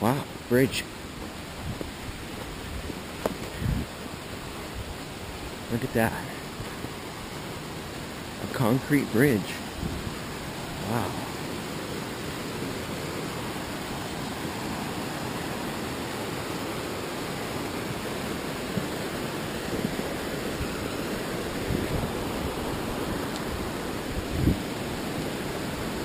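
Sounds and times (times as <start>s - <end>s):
mountain stream rushing: 0.0s - 26.0s.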